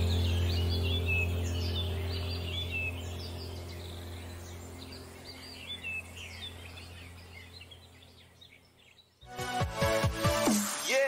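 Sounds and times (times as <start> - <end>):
low steady hum: 0.0 - 9.2
small birds chirping: 0.0 - 9.5.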